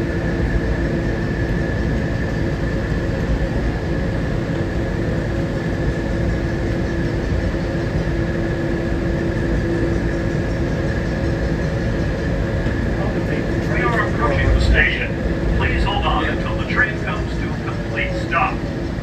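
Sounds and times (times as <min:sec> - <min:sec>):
monorail car rumble: 0:00.0 - 0:19.0.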